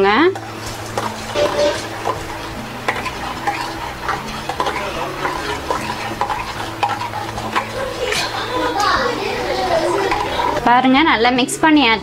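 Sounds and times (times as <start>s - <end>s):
metal spoon scraping a metal pot: 0.3s - 10.7s.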